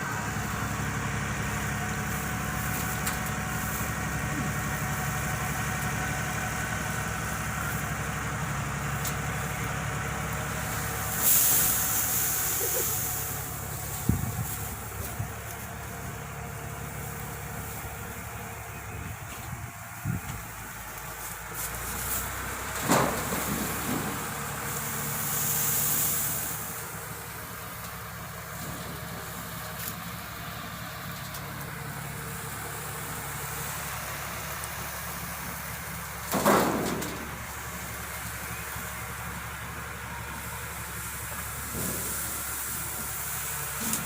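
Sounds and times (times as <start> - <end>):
tractor engine running: 0.0 - 44.0
hiss: 0.6 - 18.2, 20.5 - 44.0.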